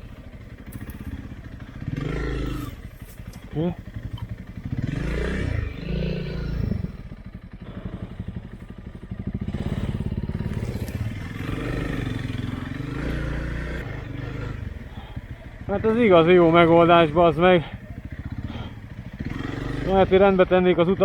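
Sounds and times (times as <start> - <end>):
motorcycle engine at low revs: 0.0 - 21.0.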